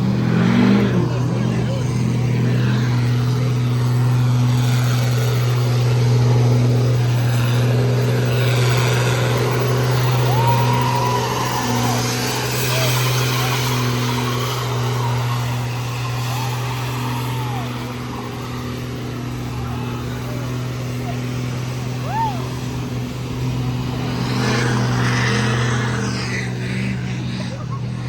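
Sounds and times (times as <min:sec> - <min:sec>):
spinning tyres hissing: 0:00.0 - 0:28.0
truck engines running: 0:00.0 - 0:28.0.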